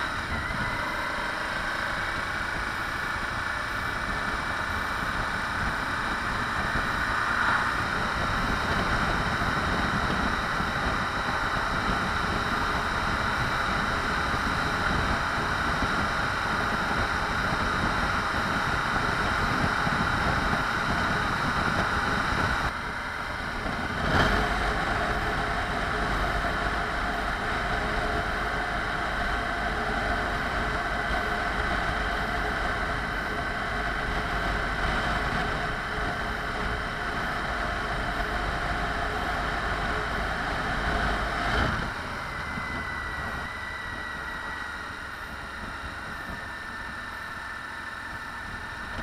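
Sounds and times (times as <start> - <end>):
motorcycle engine running: 0.0 - 49.0
wind noise: 0.0 - 49.0.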